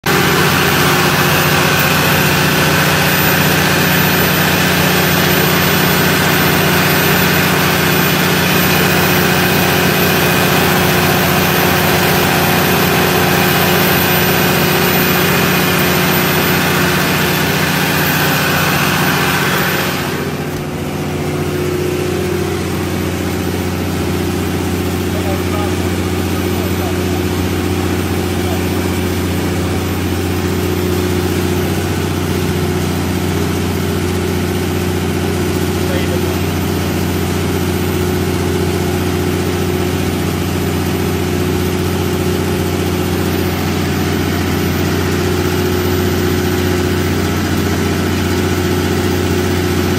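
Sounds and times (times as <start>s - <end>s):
diesel generator engine running: 0.0s - 49.9s.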